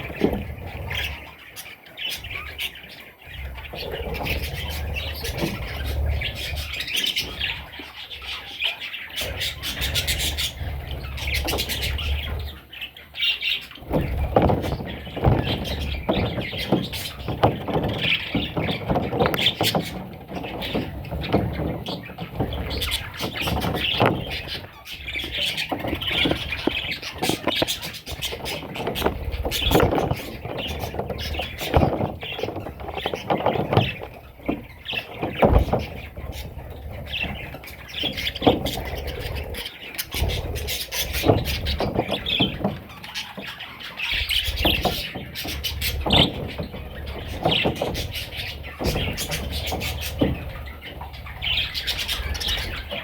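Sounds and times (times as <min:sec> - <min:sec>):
knocks and bumps: 0:00.0 - 0:01.5, 0:02.1 - 0:07.8, 0:09.2 - 0:12.8, 0:13.4 - 0:53.0
budgie chicks squeaking: 0:00.0 - 0:53.0.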